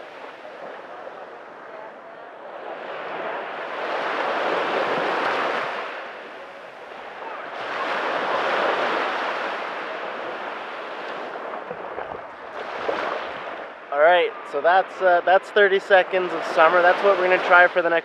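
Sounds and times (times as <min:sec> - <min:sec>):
small waves washing on sand: 0:00.0 - 0:18.0.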